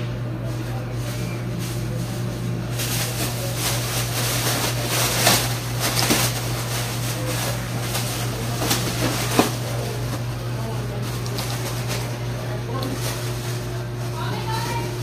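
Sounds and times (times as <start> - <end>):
steady low hum: 0.0 - 15.0
plastic bag crinkling: 0.4 - 15.0.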